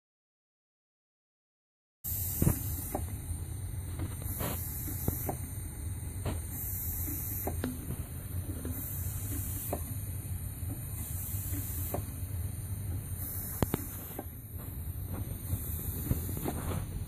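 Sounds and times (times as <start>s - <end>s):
low hum: 2.1s - 17.0s
steam engine exhaust hissing: 2.1s - 17.0s.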